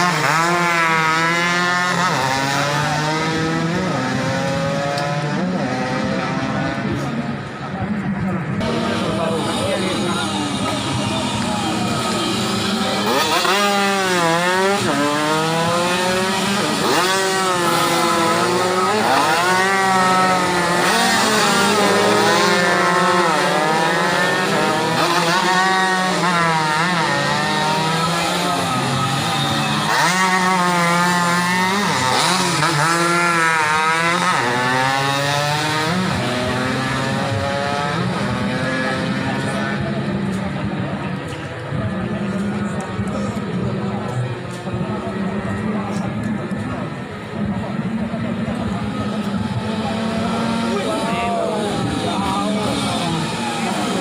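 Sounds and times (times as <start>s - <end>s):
racing motorcycles at full throttle: 0.0s - 54.0s.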